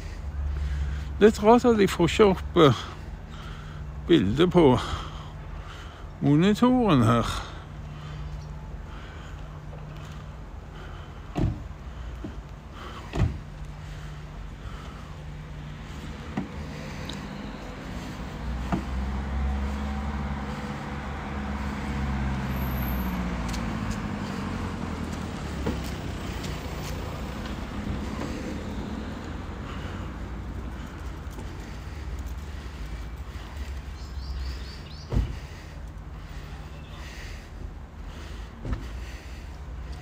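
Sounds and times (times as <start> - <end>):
low street rumble: 0.0 - 40.0
motor vehicle passing: 6.9 - 40.0.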